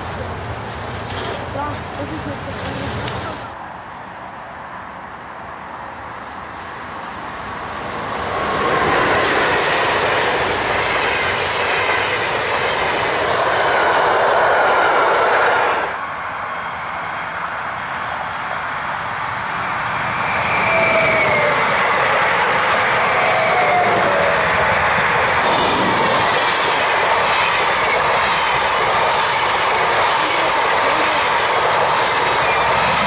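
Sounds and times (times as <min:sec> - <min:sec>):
train wheels rushing on rails: 0:00.0 - 0:03.6, 0:04.8 - 0:33.0.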